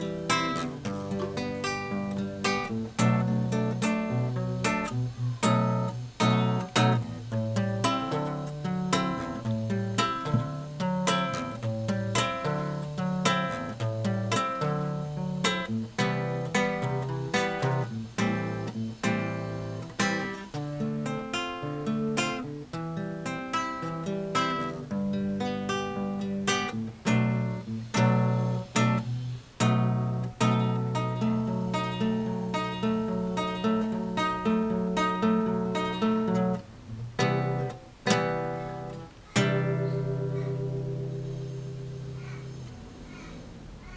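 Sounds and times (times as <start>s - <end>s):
acoustic guitar: 0.0s - 43.9s.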